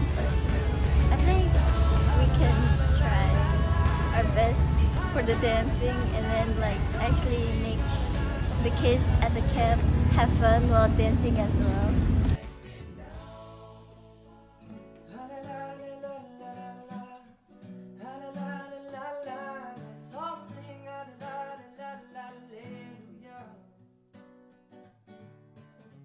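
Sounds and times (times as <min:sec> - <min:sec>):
person singing: 0:00.0 - 0:14.5, 0:15.1 - 0:17.4, 0:18.0 - 0:23.6
acoustic guitar music: 0:00.0 - 0:26.0.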